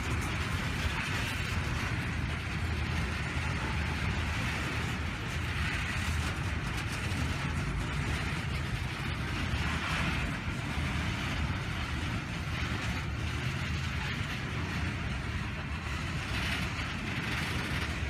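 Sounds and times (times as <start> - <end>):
freight train rolling on rails: 0.0 - 18.0.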